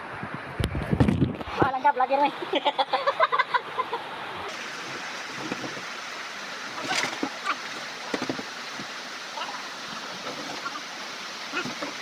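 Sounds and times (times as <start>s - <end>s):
floodwater rushing: 1.6s - 12.0s.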